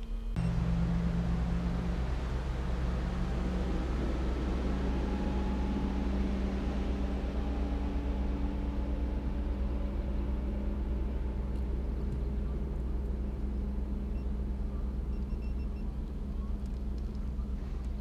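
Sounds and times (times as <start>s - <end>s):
low rumble: 0.0s - 18.0s
electric trolling motor humming: 0.3s - 18.0s.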